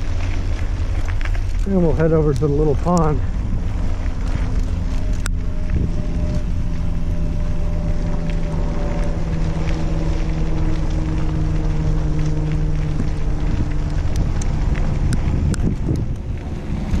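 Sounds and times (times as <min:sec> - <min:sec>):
steady low hum: 0:00.0 - 0:17.0
wind on microphone: 0:00.0 - 0:17.0.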